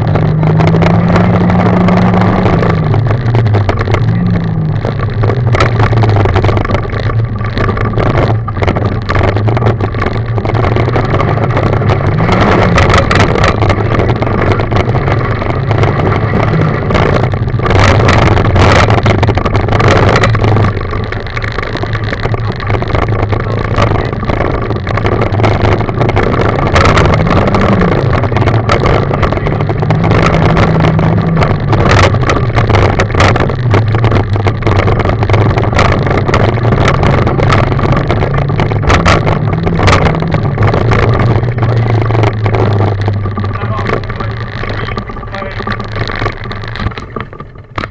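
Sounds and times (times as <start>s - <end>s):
car engine running hard: 0.0s - 47.9s
gravel clattering against underbody: 0.0s - 47.9s
tyre and road noise: 0.0s - 47.9s.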